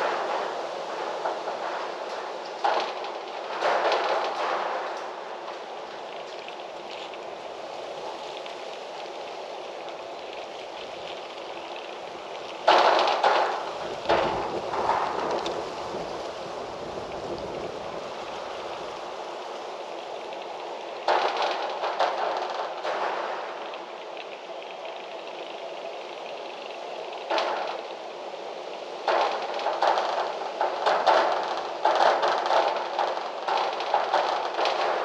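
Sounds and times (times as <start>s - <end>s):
wind rustling through trees: 0.0s - 35.0s.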